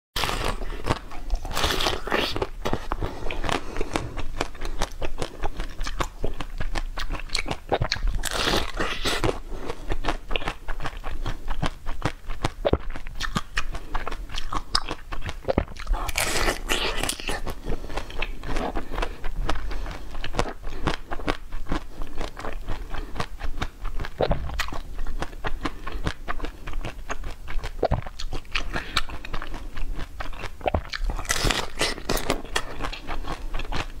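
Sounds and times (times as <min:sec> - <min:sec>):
crunchy bites and chewing: 0:00.2 - 0:34.0.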